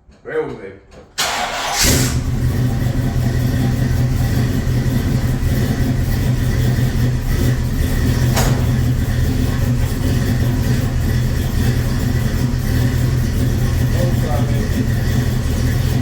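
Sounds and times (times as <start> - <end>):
car engine starting and running: 1.2 - 16.0.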